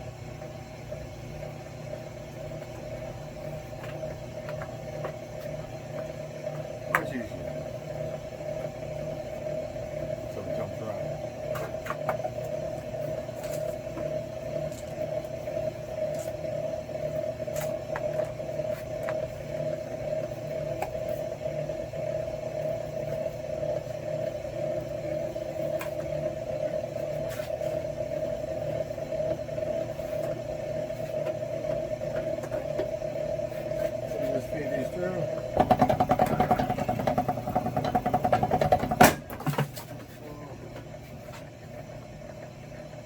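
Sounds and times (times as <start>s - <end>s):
wire stripping machine humming: 0.0s - 43.0s.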